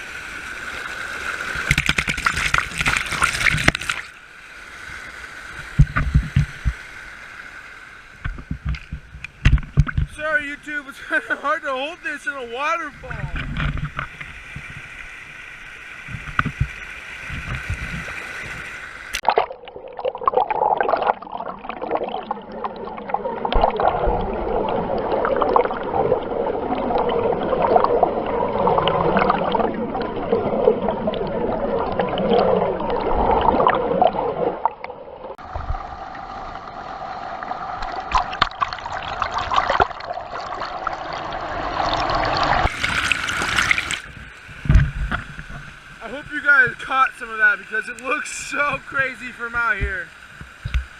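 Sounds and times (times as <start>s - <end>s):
waterfall splashing on microphone: 0.0s - 50.9s.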